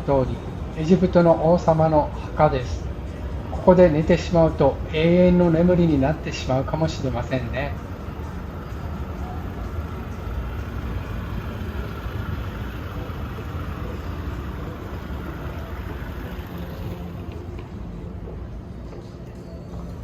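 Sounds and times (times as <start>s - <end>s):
low rumbling hotel interior noise: 0.0s - 20.0s.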